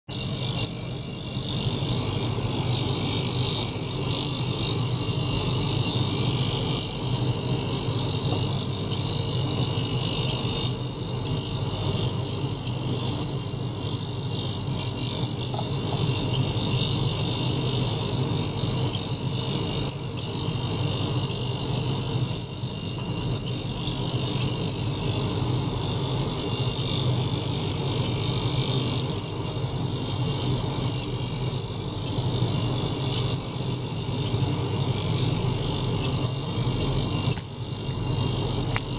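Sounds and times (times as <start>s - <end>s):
ultrasonic cleaner buzzing: 0.1s - 38.9s.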